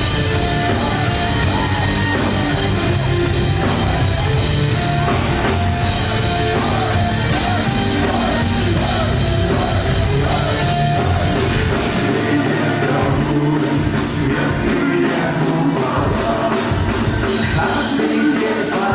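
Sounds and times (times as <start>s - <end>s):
bass guitar: 0.0s - 18.9s
drum kit beat: 0.0s - 18.9s
electric guitars: 0.0s - 18.9s.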